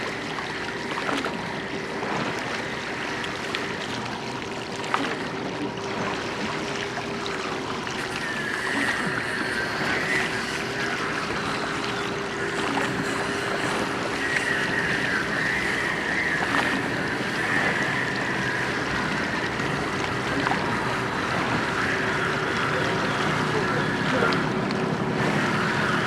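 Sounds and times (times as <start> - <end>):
steady hum: 0.0 - 26.0
water washing along boat hull: 0.0 - 26.0.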